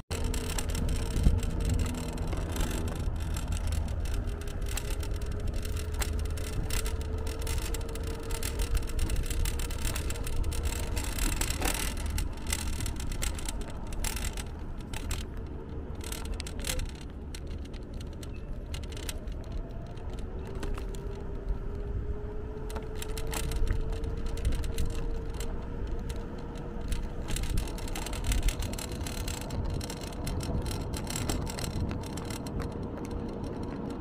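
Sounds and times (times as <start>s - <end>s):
scooter low rumble: 0.0s - 34.0s
small clicks and rattles: 0.0s - 34.0s.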